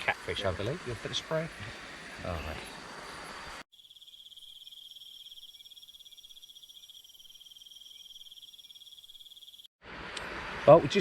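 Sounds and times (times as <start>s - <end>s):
insects trilling: 0.0s - 9.7s.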